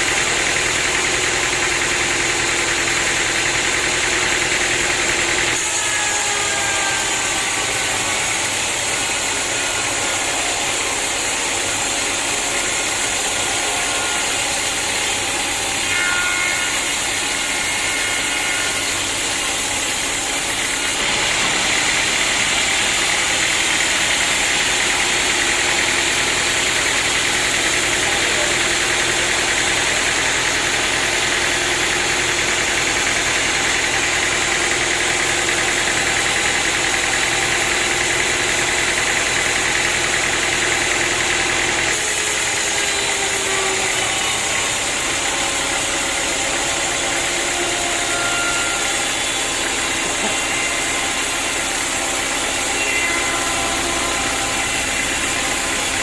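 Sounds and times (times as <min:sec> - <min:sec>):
saw cutting through log: 0:00.0 - 0:56.0
sawmill machine running: 0:00.0 - 0:56.0.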